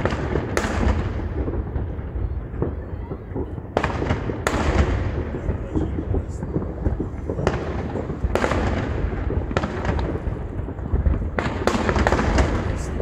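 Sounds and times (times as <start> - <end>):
fireworks booming and crackling: 0.0 - 13.0
sharp firework bangs: 0.0 - 13.0.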